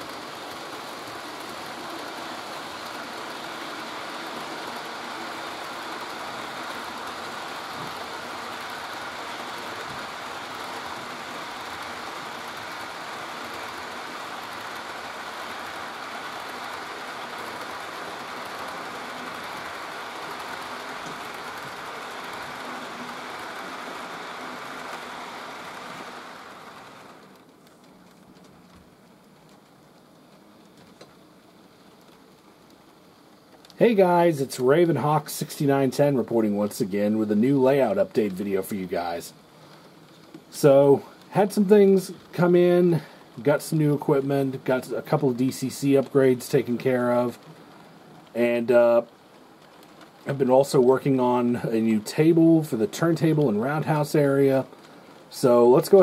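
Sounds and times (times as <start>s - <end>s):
model train wheels rattling on rail: 0.0s - 56.0s.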